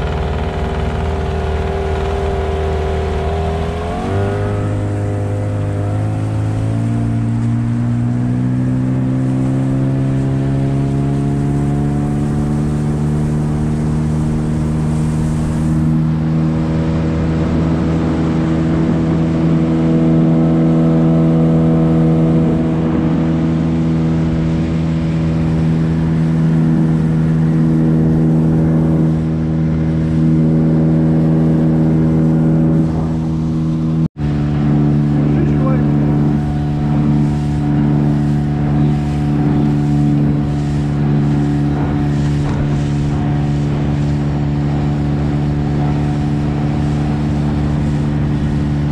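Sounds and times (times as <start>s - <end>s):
outboard motor running: 0.0s - 48.9s.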